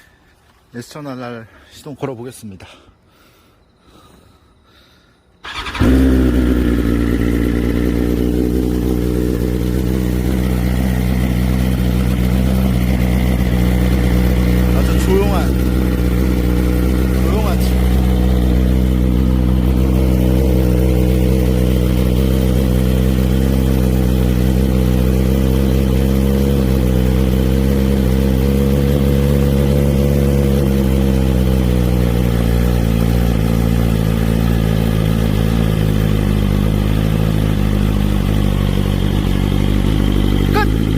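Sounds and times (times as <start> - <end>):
motorcycle engine idling: 5.4 - 40.9.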